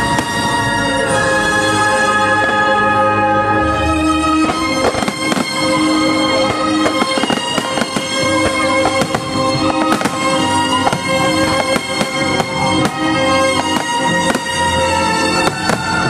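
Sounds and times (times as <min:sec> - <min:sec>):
fireworks bangs and crackles: 0:00.0 - 0:02.8, 0:04.1 - 0:16.0
music with long held notes: 0:00.0 - 0:16.0.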